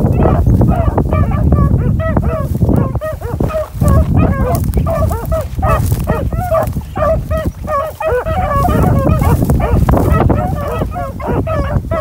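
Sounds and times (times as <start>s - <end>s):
beagles baying: 0.0s - 12.0s
wind buffeting microphone: 0.0s - 12.0s.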